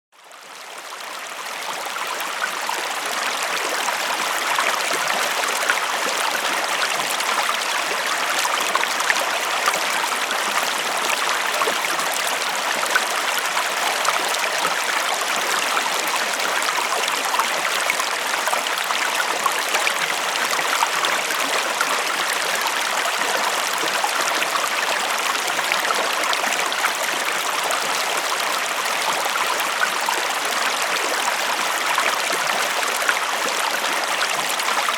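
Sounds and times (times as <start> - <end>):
stream flowing over stones: 0.2 - 34.9.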